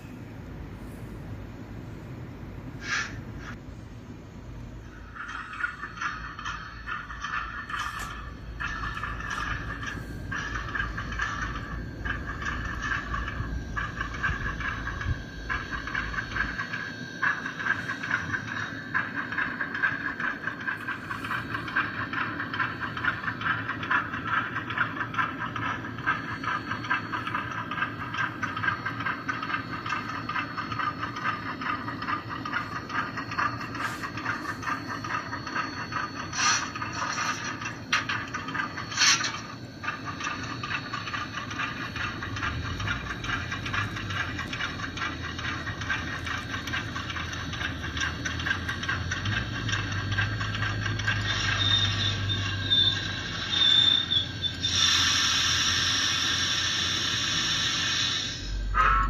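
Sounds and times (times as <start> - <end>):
wheels clattering over rails: 4.8 - 54.9
model train motor whirring: 5.0 - 59.0.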